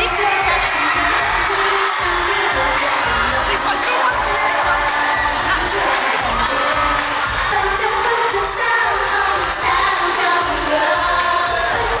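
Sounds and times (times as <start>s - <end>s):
live pop song with vocals: 0.0s - 12.0s.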